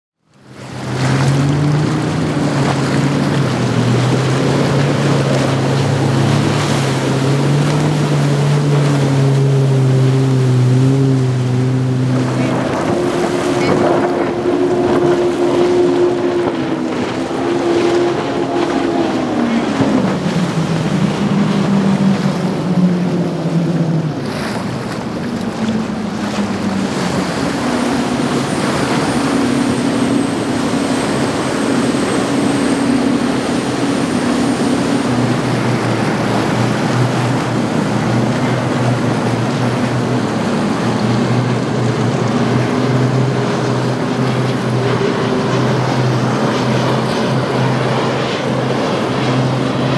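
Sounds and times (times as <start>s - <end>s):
boat engine drone: 0.2s - 49.9s
hull wash and spray: 0.2s - 49.9s
wind on microphone: 0.8s - 49.9s.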